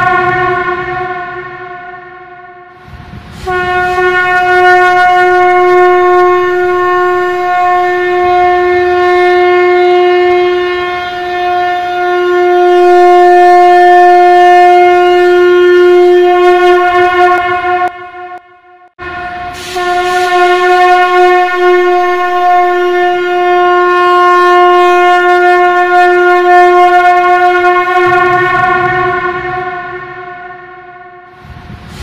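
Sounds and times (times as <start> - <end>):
conch shell blast: 0.0 - 32.0.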